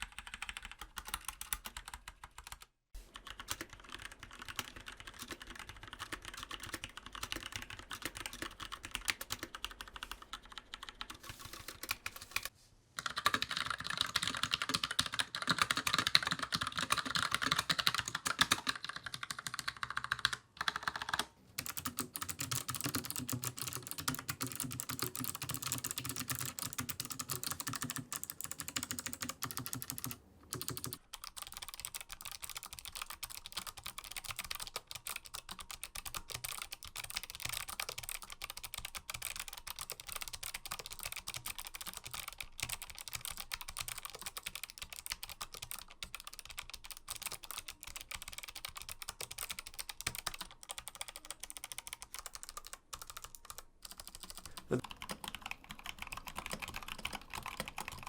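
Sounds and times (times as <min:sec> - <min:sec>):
typing on mechanical keyboard: 0:00.0 - 0:58.0.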